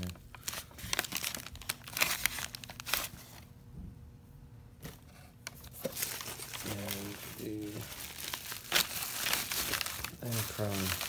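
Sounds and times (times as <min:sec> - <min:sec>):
packaging crinkling and rustling: 0:00.0 - 0:03.5, 0:05.4 - 0:11.0.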